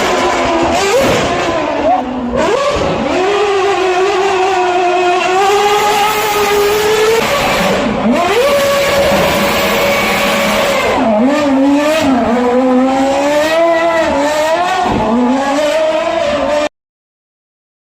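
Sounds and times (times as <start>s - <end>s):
racing car engine revving: 0.0s - 16.7s.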